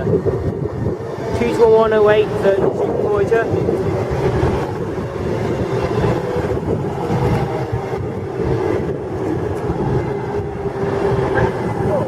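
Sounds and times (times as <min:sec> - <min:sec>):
diesel engine hum: 0:00.0 - 0:12.0
train low rumble: 0:00.0 - 0:12.0.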